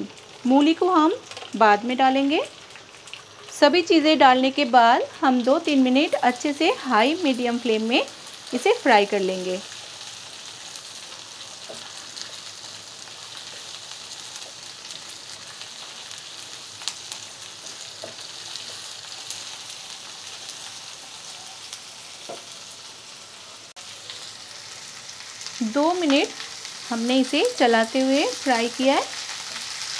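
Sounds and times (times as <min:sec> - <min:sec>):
vegetables sizzling in hot oil: 0:00.0 - 0:29.9.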